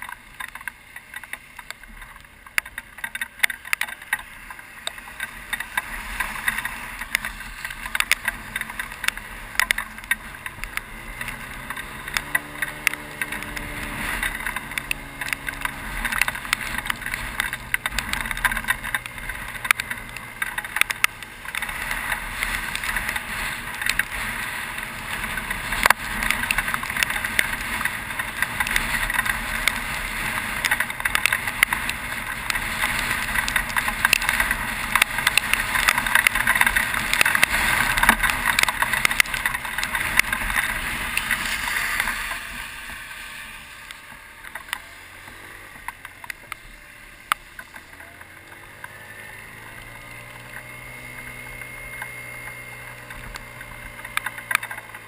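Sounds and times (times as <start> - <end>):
heavy rain: 0.0 - 48.3
raindrops crackling on microphone: 0.0 - 55.0.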